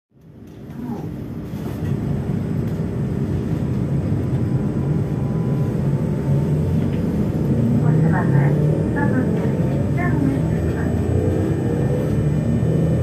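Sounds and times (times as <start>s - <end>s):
train equipment hum and rumble: 0.1s - 13.0s.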